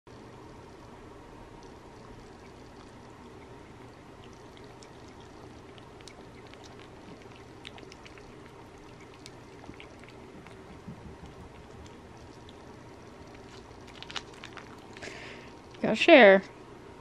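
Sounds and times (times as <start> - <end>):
low background hum: 0.1 - 17.0
cat tongue licking: 1.6 - 15.8.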